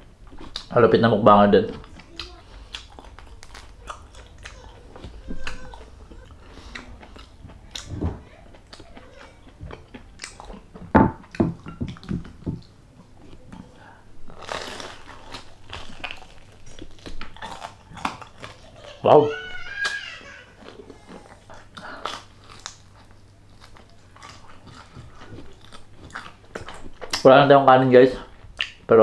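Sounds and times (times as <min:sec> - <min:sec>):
crunchy chewing: 0:01.7 - 0:19.0, 0:19.8 - 0:27.3.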